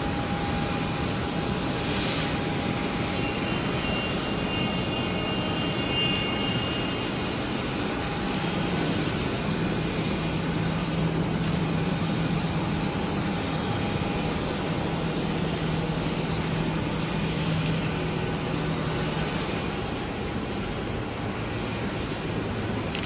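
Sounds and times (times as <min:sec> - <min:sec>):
jet airliner rumble overhead: 0:00.0 - 0:23.0.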